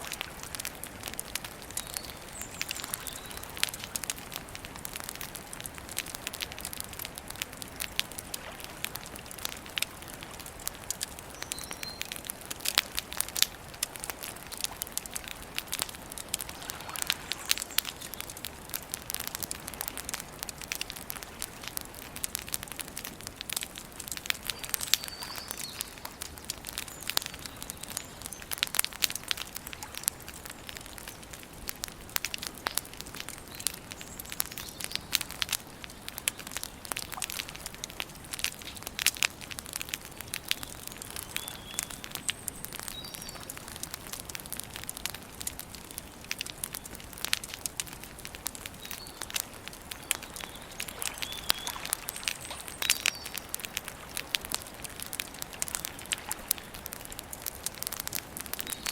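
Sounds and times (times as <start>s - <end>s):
campfire crackling and popping: 0.0s - 58.9s
soft steady hiss: 0.0s - 58.9s.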